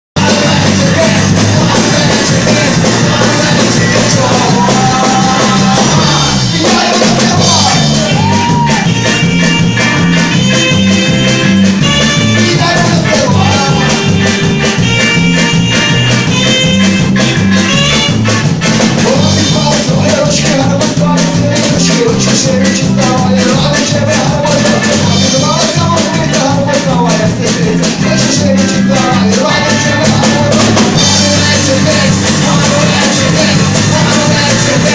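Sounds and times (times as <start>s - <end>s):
bass guitar: 0.1s - 34.9s
person singing: 0.2s - 16.8s, 18.9s - 34.9s
drum kit beat: 0.2s - 34.9s
electric guitar: 0.2s - 34.9s.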